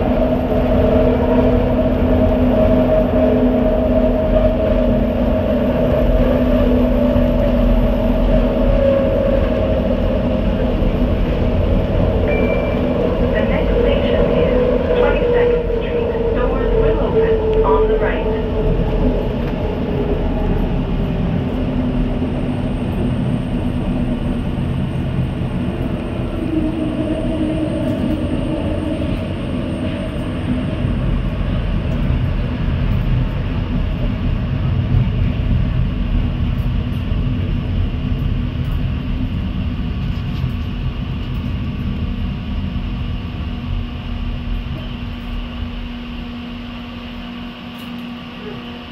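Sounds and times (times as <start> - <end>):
wheels rumbling on rail: 0.0 - 48.9.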